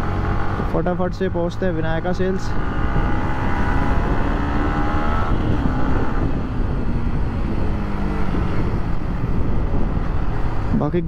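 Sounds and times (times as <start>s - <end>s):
motorcycle engine: 0.0s - 11.0s
wind rumble on microphone: 0.0s - 11.0s.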